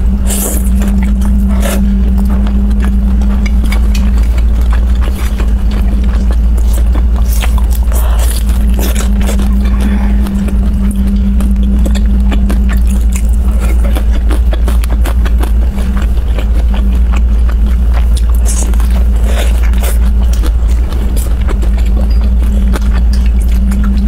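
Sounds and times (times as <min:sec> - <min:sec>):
chewing and biting dumplings: 0:00.0 - 0:24.0
low hum: 0:00.0 - 0:24.0.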